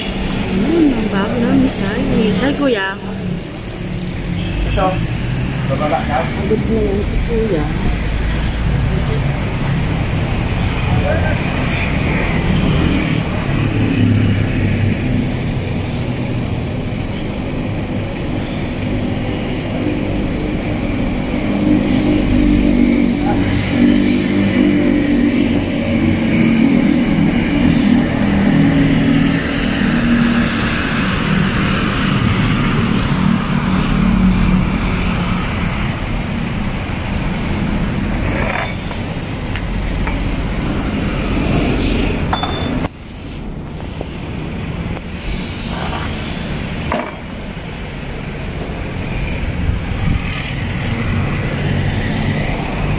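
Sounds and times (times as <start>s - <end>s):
large vehicle engine running: 0.0s - 52.9s
road traffic: 0.0s - 52.9s.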